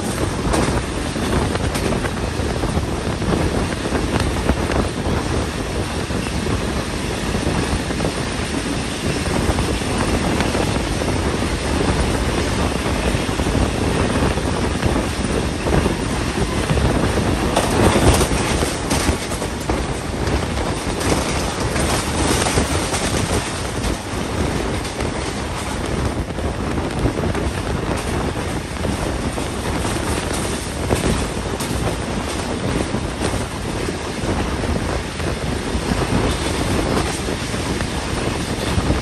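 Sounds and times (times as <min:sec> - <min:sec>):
train wheels rumbling on rails: 0:00.0 - 0:39.0
wind buffeting microphone: 0:00.0 - 0:39.0.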